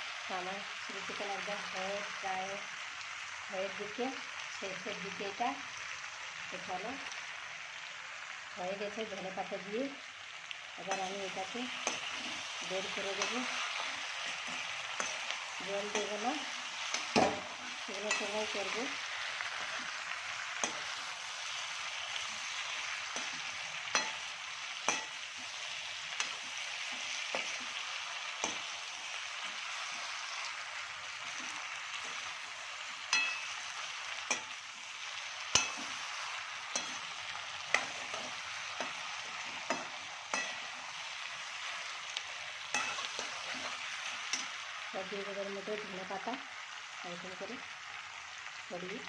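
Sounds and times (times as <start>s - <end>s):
chicken sizzling in a pan: 0.0s - 49.0s.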